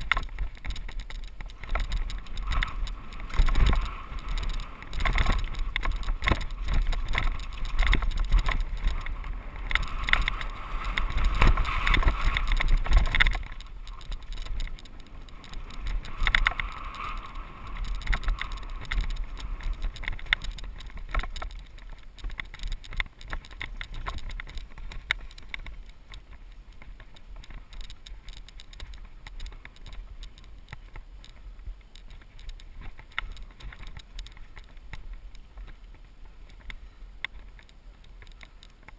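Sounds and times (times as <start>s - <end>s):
bike rattling and clattering: 0.0s - 38.9s
bike tyres on dirt and gravel: 0.0s - 38.9s
wind buffeting microphone: 0.0s - 38.9s.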